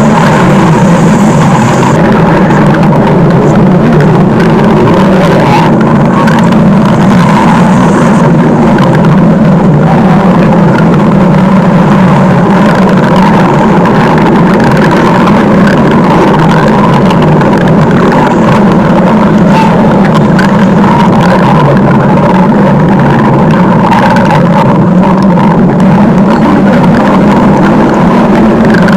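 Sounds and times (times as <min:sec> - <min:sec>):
stomach growling: 0:00.0 - 0:28.9.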